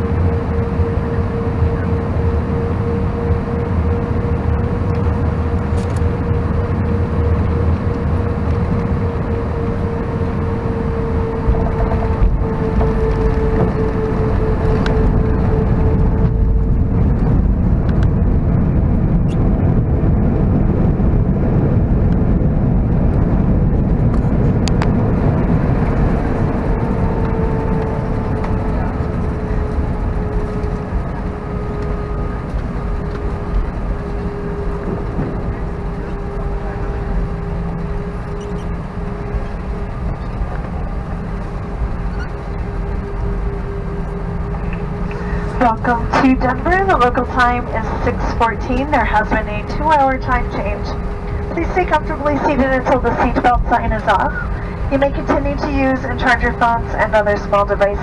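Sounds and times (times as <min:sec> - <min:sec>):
jet engines rumbling: 0:00.0 - 0:58.0
wheels rumbling on runway: 0:00.0 - 0:58.0.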